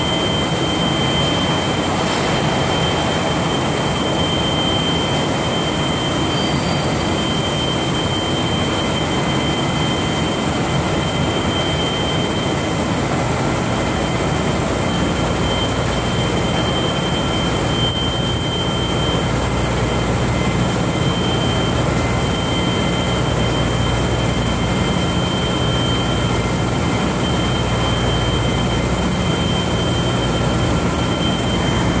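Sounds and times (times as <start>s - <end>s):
high machine whine: 0.0s - 32.0s.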